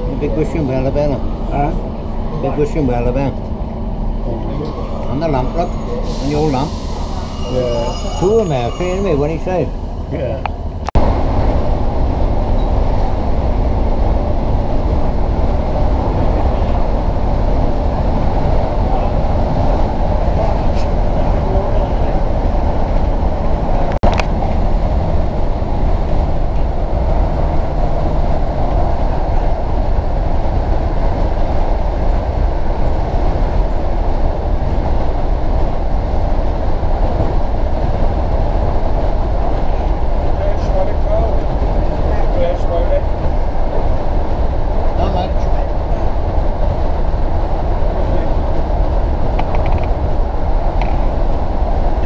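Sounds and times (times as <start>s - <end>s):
train rumbling on rails: 0.0s - 52.0s.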